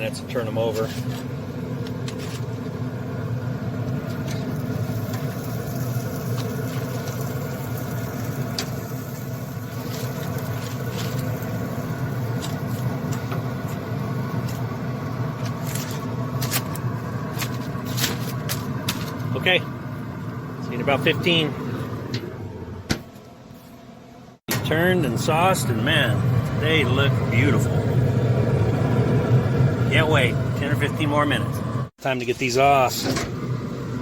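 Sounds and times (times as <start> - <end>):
low motor hum: 0.0 - 31.9, 33.0 - 34.0.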